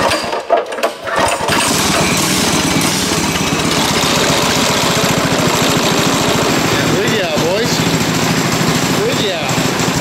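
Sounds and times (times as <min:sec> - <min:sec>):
small engine starting and running: 0:00.0 - 0:10.0.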